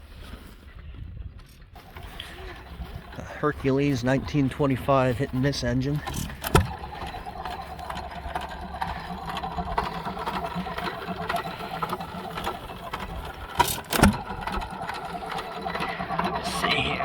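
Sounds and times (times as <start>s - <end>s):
engine sharp bangs: 1.8s - 17.0s
gas engine clattering: 1.8s - 17.0s.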